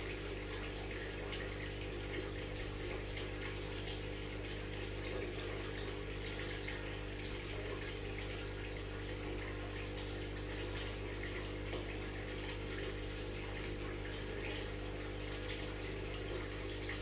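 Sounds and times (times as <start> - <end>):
low pump hum: 0.0 - 17.0
water splashing and trickling: 0.0 - 17.0.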